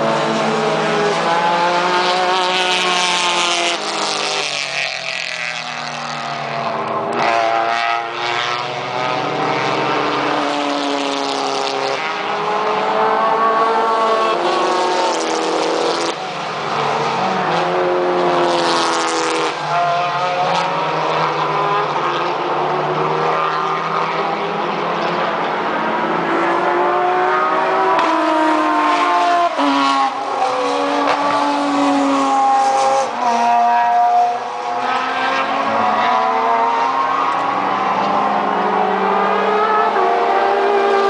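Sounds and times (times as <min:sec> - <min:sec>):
race car engines accelerating: 0:00.0 - 0:41.0.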